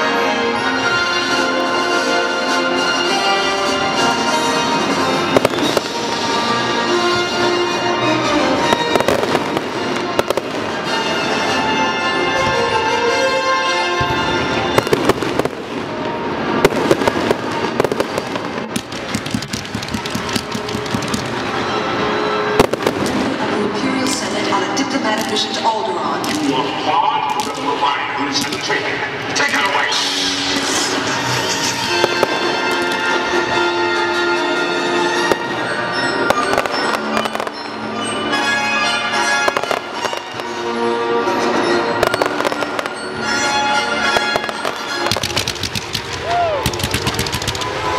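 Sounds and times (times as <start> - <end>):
fireworks bursting and crackling: 3.7 - 11.8, 14.0 - 38.6, 39.2 - 47.9.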